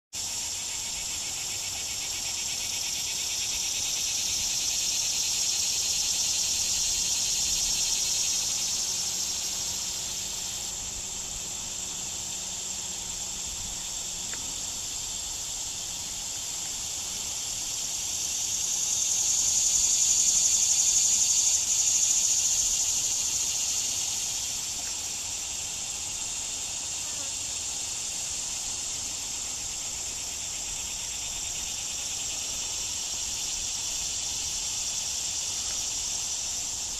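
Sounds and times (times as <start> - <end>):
insects buzzing trill: 0.2 - 36.9.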